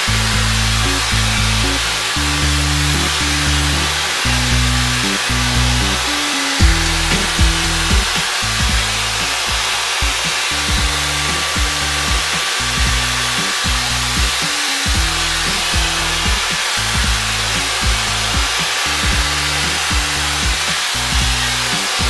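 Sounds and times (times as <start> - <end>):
background music with bass line: 0.0 - 22.0
hair dryer blowing: 0.0 - 22.0.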